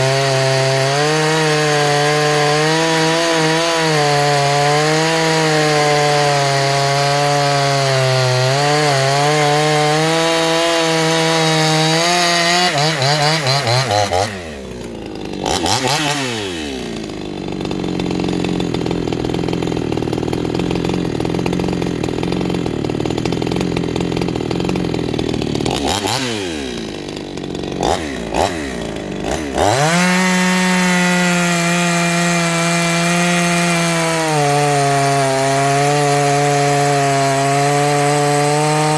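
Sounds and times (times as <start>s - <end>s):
chainsaw cutting wood: 0.0s - 38.9s
chainsaw idling: 0.0s - 38.9s.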